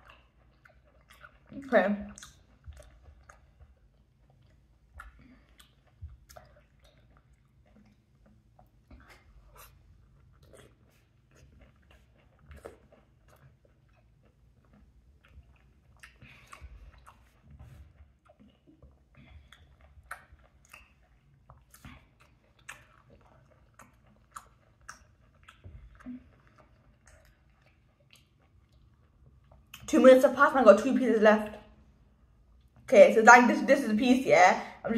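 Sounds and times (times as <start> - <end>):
faint chewing and mouth clicks: 0.0 - 30.3, 31.4 - 32.9.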